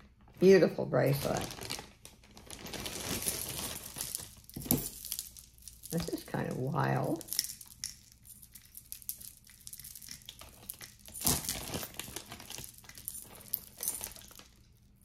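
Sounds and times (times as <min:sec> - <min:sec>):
packaging crinkling and rustling: 0:01.0 - 0:15.0.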